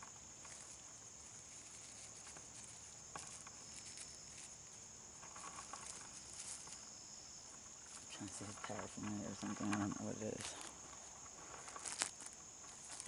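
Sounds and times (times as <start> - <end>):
handling rustles and ticks: 0.0 - 13.0
insects chirring: 0.0 - 13.0.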